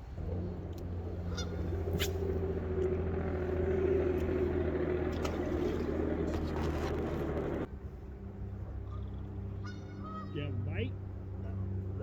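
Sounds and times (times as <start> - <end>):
droning tone: 0.0 - 12.0
engine humming: 0.0 - 12.0.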